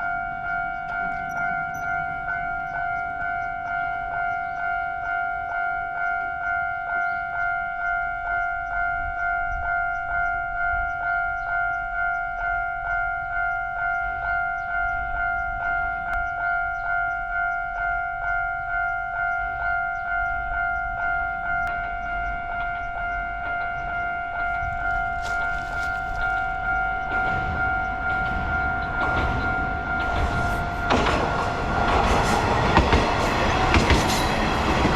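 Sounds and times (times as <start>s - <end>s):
railroad crossing alarm ringing: 0.0s - 34.9s.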